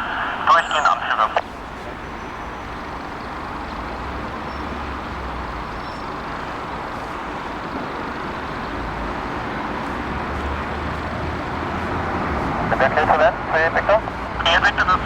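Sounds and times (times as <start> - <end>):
jet airliner engine rumble: 0.0 - 4.8, 5.5 - 15.0.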